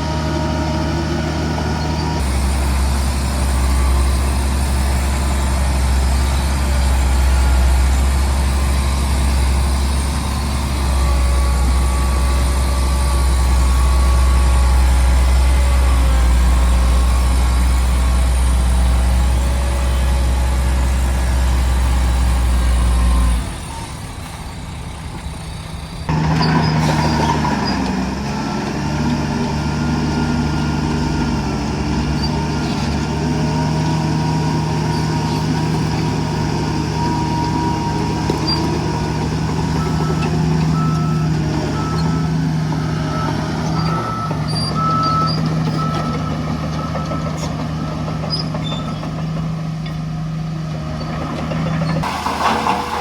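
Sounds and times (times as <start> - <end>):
heavy diesel machinery hum: 0.0 - 53.0
whining engine: 0.0 - 53.0.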